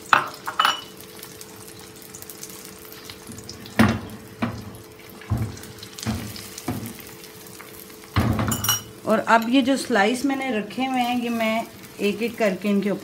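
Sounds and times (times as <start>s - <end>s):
egg sizzling in oil: 0.0s - 13.0s.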